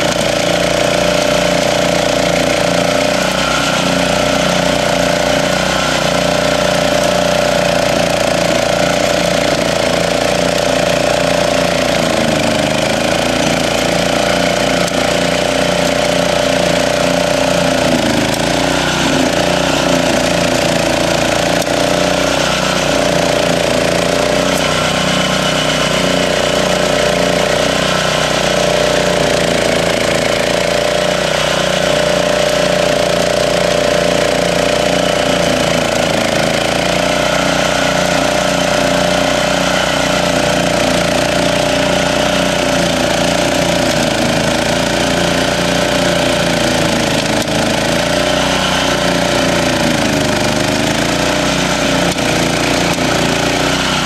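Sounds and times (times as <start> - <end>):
cutting wheel digging soil: 0.0 - 54.0
small gasoline engine running: 0.0 - 54.0.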